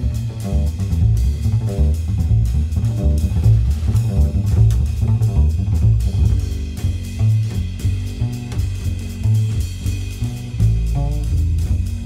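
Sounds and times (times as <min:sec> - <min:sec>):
music with heavy bass: 0:00.0 - 0:12.0.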